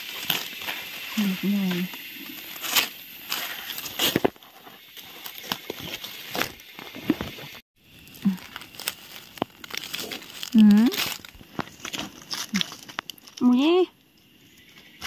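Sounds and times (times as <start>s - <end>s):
dry leaves and twigs crackling: 0.0s - 15.0s.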